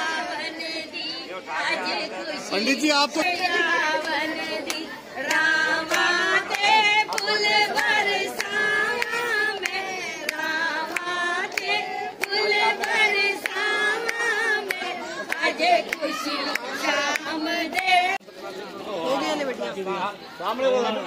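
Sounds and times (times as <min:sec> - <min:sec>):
women singing together: 0:00.0 - 0:18.2.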